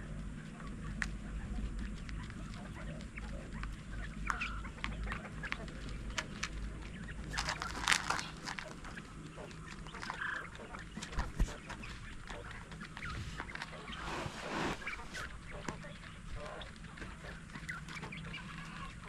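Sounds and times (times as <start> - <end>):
poultry calling: 0.0 - 19.0.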